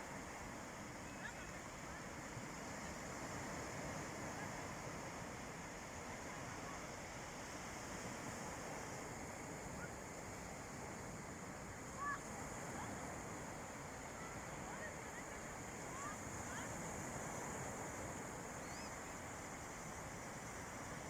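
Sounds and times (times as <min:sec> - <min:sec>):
sea waves washing on beach: 0:00.0 - 0:21.0.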